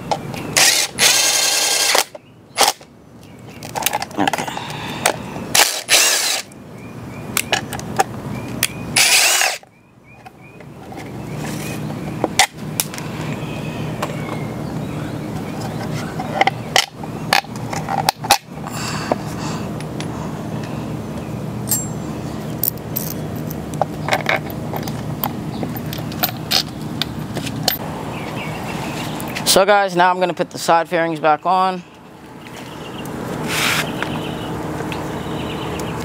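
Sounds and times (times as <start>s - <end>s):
steady low hum: 0.0s - 29.4s.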